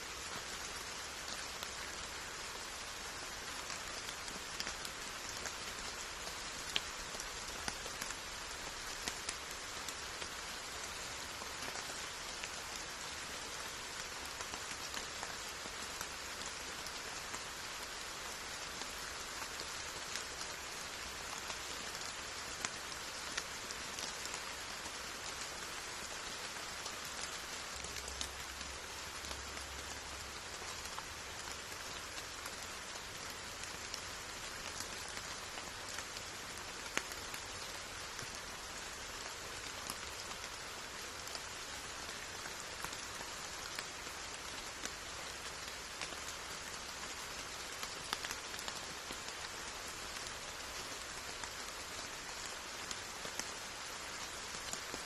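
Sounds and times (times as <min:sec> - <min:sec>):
steady rain falling: 0:00.0 - 0:55.0
raindrops striking surfaces: 0:00.1 - 0:55.0.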